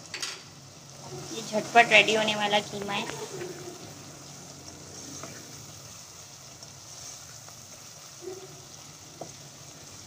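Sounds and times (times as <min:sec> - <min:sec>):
meat sizzling in hot oil: 0:00.0 - 0:10.0
spatula stirring: 0:01.2 - 0:10.0.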